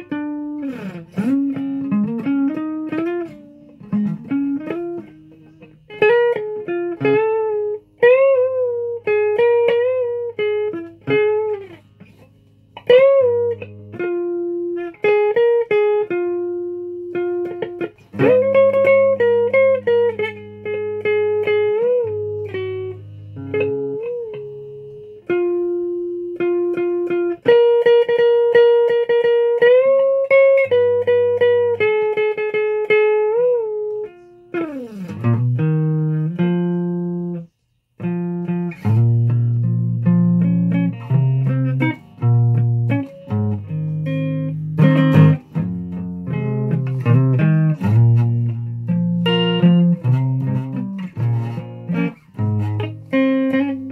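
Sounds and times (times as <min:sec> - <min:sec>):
plucked guitar melody: 0:00.0 - 0:53.9.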